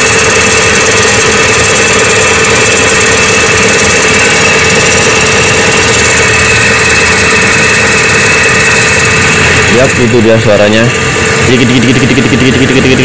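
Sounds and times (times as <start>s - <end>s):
car engine idling: 0.0s - 13.0s
engine ticking: 0.0s - 13.0s.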